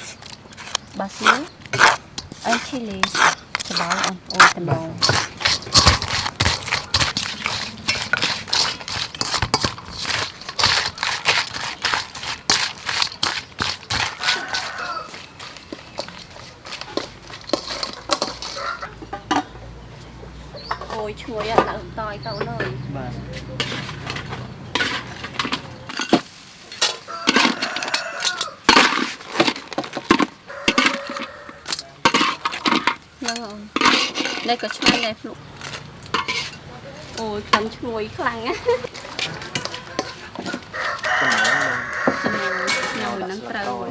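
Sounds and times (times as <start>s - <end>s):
utensils clinking against a dish: 0.0s - 43.9s.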